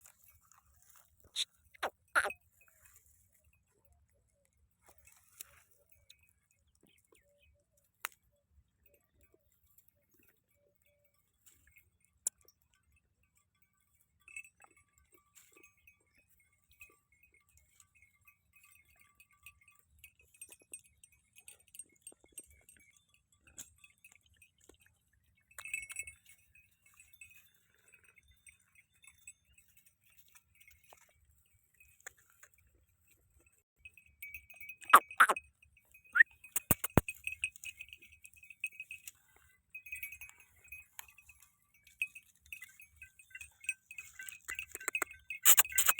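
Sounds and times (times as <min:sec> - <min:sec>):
goat bells jingling: 0:00.0 - 0:45.9.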